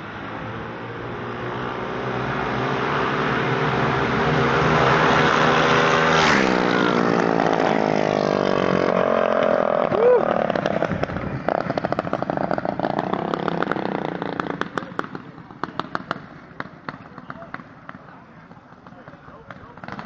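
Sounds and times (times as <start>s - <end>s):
minibikes racing past: 0.0s - 20.0s.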